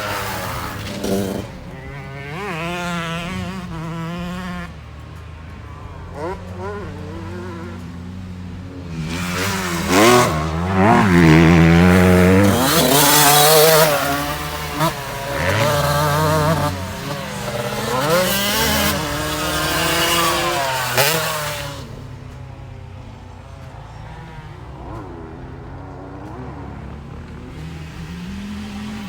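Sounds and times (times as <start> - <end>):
motocross engine revving: 0.0 - 29.0.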